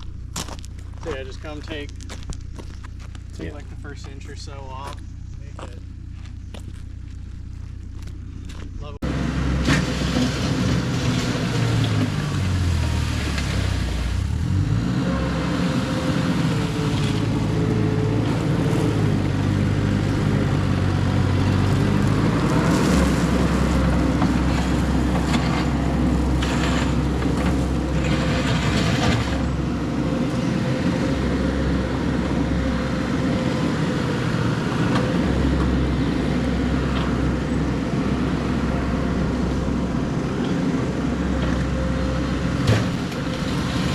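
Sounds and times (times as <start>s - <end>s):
skid steer engine running: 0.0s - 43.9s.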